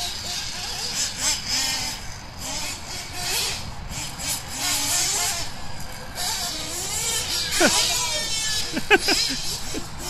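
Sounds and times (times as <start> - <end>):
model car engines revving: 0.0 - 10.0.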